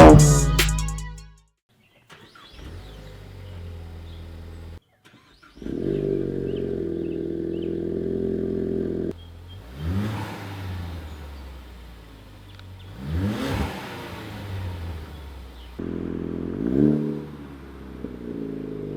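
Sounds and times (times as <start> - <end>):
car exhaust idling and revving: 2.6 - 4.8, 5.6 - 18.9.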